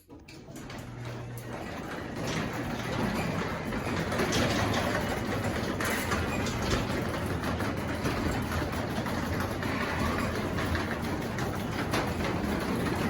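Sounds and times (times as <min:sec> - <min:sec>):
garage door opener motor humming: 0:00.0 - 0:13.0.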